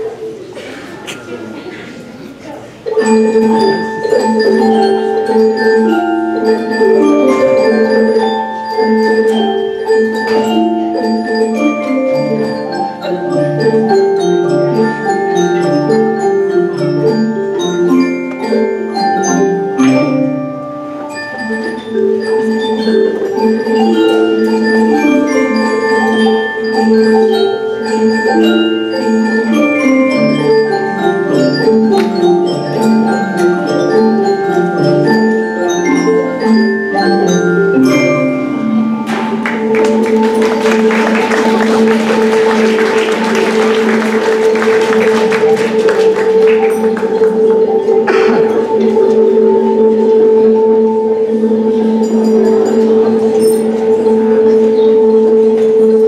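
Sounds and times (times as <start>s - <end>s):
mallet percussion music: 0.0s - 56.0s.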